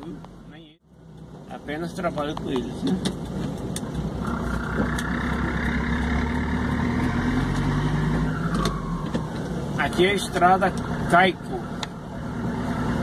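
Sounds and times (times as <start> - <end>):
vehicle engine running: 0.2 - 13.0.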